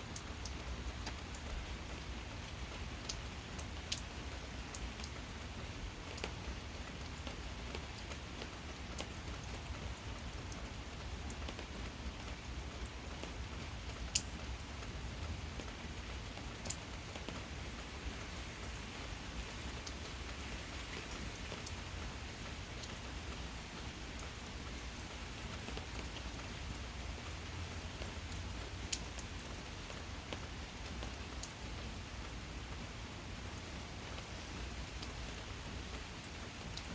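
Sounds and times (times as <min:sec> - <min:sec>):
gentle rain: 0:00.0 - 0:36.9
raindrops ticking on a surface: 0:00.0 - 0:36.9.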